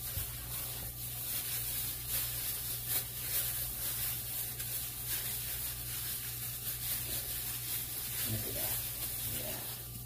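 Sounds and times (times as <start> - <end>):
gloved hands rubbing raw steak: 0.0 - 10.0.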